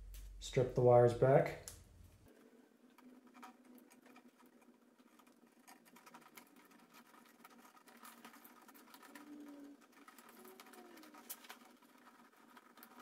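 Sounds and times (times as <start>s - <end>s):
wires clicking and rustling: 1.2s - 13.0s.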